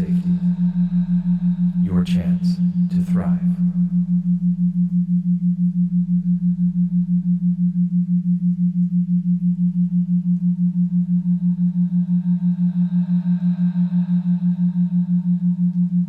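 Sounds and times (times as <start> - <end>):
faint high ringing tones: 0.0 - 16.0
low pulsing pure tone: 0.0 - 16.0.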